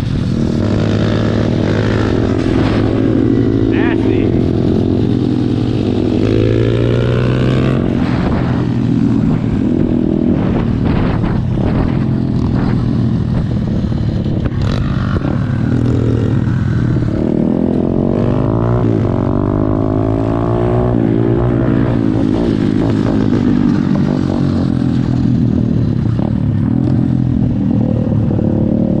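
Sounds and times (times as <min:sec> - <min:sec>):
motorbike engine revving: 0:00.0 - 0:29.0.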